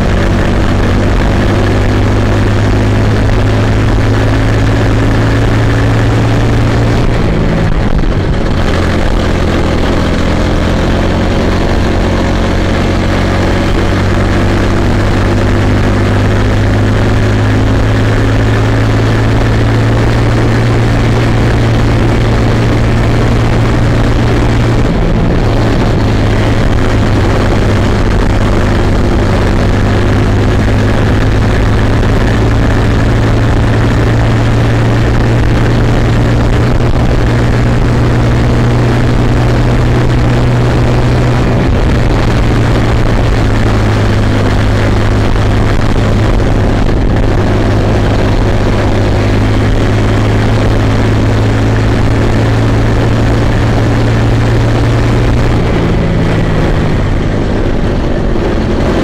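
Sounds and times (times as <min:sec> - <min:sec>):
kart two-stroke engine racing: 0:00.0 - 0:59.0.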